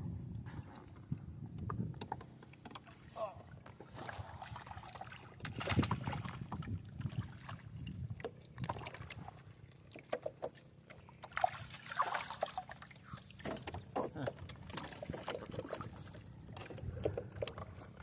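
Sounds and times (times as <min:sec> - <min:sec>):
water sloshing and splashing: 0:00.5 - 0:18.0.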